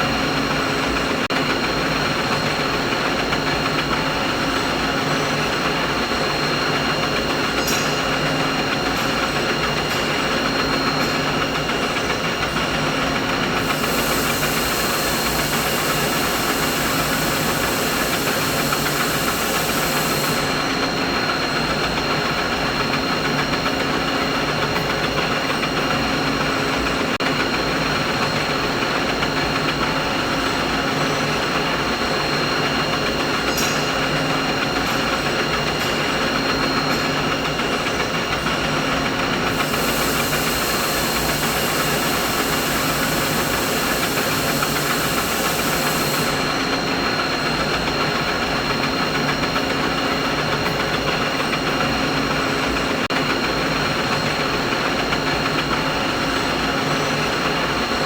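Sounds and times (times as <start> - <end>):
machine hum and whir: 0.0 - 58.0.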